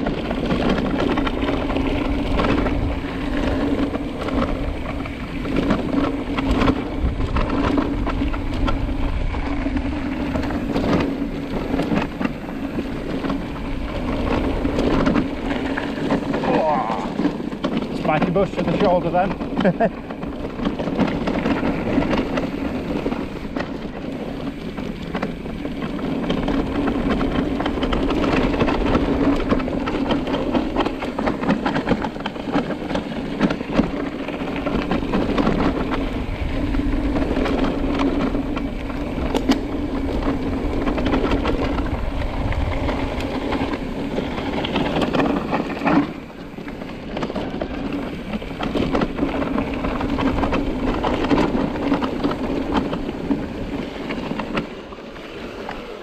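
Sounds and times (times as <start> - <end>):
bike knocks and rattles: 0.0 - 56.0
bike tyres rolling over dirt: 0.0 - 56.0.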